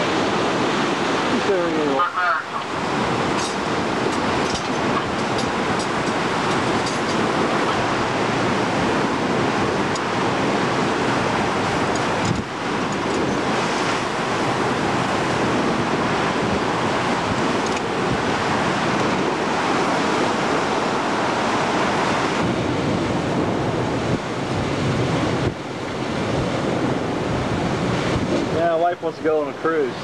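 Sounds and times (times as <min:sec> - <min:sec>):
sea water churning past hull: 0:00.0 - 0:30.0
wind on microphone: 0:00.0 - 0:30.0.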